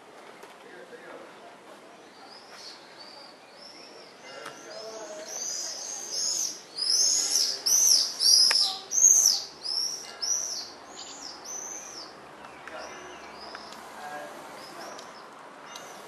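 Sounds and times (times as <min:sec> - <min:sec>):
birds chirping: 0:02.0 - 0:16.0.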